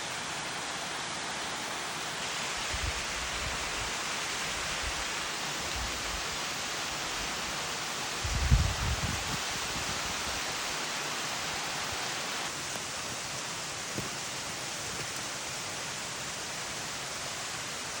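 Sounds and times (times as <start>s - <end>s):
falling water rushing: 0.0s - 18.0s.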